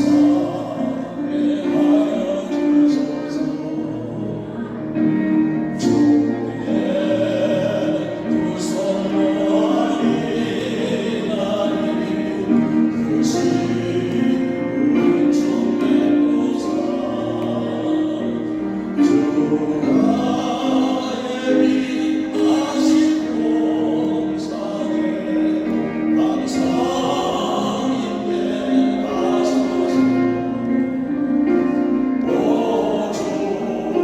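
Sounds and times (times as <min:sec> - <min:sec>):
group singing praise song: 0:00.0 - 0:05.2, 0:05.8 - 0:30.8, 0:32.2 - 0:34.0.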